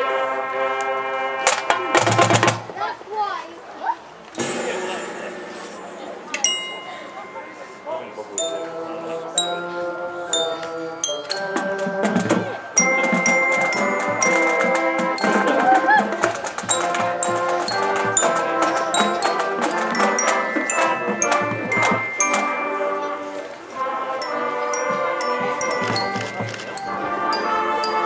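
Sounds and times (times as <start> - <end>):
marching band playing: 4.4 - 7.8, 8.4 - 28.0
ringing mallet notes: 4.4 - 15.8, 16.7 - 28.0.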